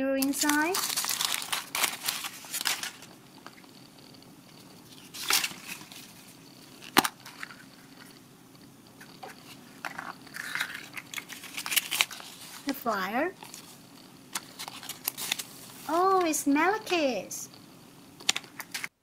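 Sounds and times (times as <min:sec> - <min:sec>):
wrapper rustling and crinkling: 0:00.2 - 0:08.2, 0:09.0 - 0:17.0.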